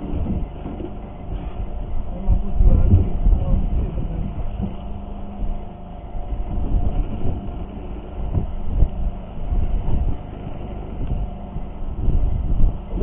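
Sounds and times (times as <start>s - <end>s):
faint steady hum: 0.0s - 13.0s
rough sea rumbling: 0.0s - 13.0s
wind buffeting microphone: 0.0s - 13.0s.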